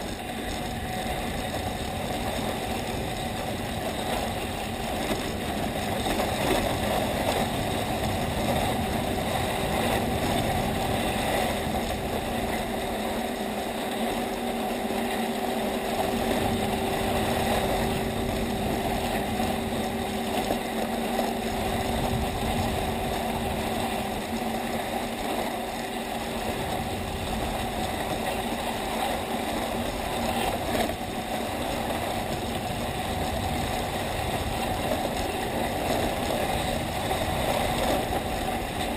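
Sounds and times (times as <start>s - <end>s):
faint steady hum: 0.0s - 38.9s
skis scraping over snow: 0.0s - 38.9s.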